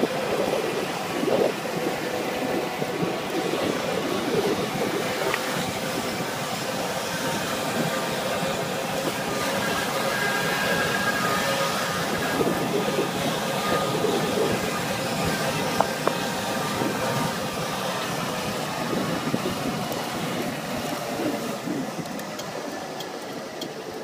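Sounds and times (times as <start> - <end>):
wind noise: 0.0 - 23.9
moped engine running: 0.0 - 24.0
road noise: 0.0 - 24.0.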